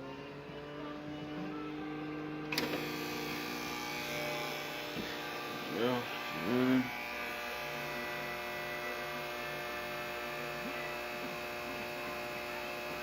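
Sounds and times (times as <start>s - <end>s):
electrical hum: 0.4s - 13.0s.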